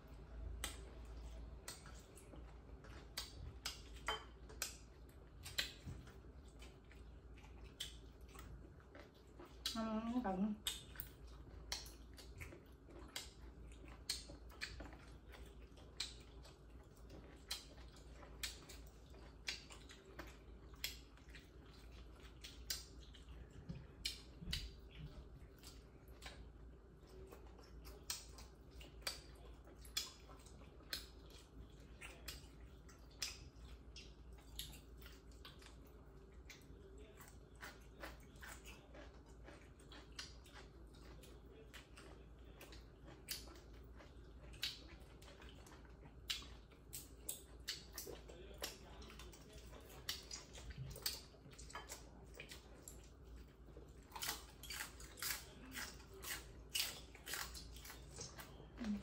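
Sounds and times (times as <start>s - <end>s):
chewing and lip-smacking: 0.0s - 59.0s.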